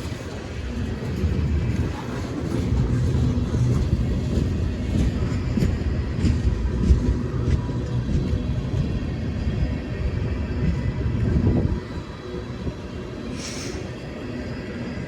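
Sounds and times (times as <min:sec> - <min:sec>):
train wheels clicking on rail joints: 0:00.0 - 0:14.5
freight train rumbling: 0:00.0 - 0:15.0.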